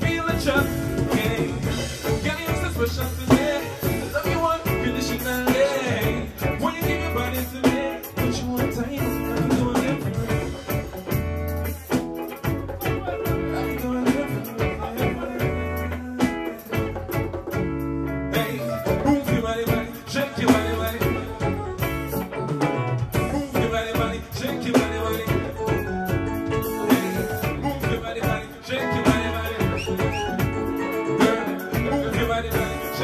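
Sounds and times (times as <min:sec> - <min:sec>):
man singing into microphone: 0:00.0 - 0:11.0, 0:12.8 - 0:17.3, 0:18.3 - 0:33.0
drums: 0:00.0 - 0:33.0
electric bass guitar: 0:00.0 - 0:33.0.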